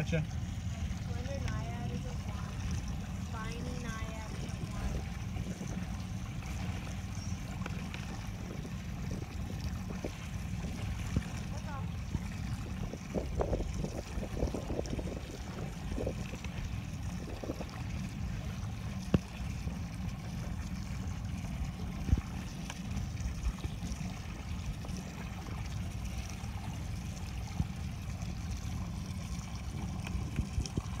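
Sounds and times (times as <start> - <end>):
small boat rumbling: 0.0 - 31.0.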